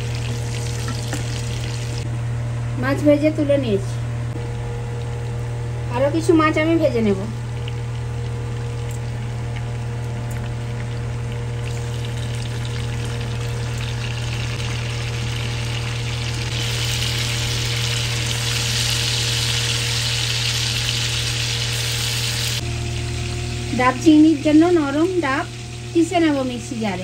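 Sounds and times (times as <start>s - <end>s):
prawns sizzling in hot oil: 0.0s - 2.1s, 7.4s - 27.0s
steady low hum: 0.0s - 27.0s.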